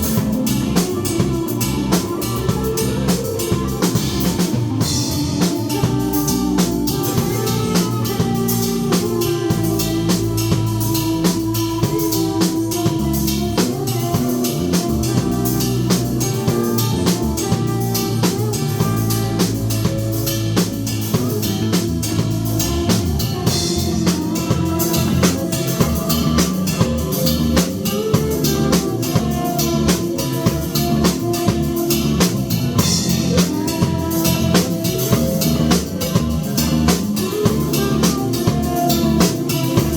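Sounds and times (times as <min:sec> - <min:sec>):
live rock band playing: 0:00.0 - 0:39.9
snare and bass drum beat: 0:00.0 - 0:39.9.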